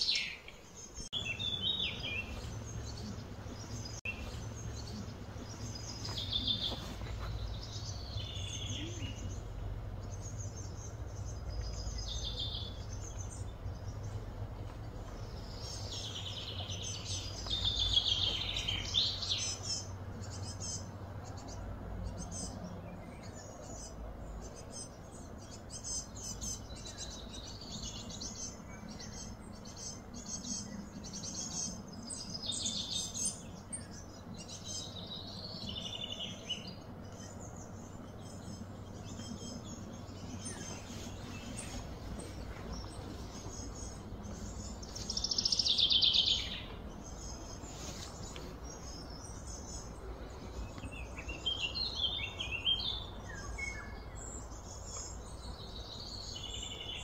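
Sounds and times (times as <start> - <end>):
birds chirping: 0.0 - 57.0
steady low rumble: 0.8 - 56.8.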